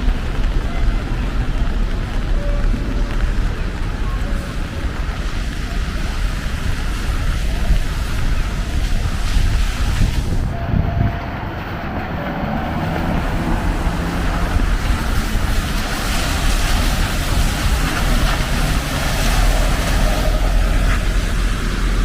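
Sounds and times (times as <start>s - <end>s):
rain falling: 0.0s - 22.0s
tyres hissing on wet road: 0.0s - 22.0s
vehicle rumble: 0.0s - 22.0s.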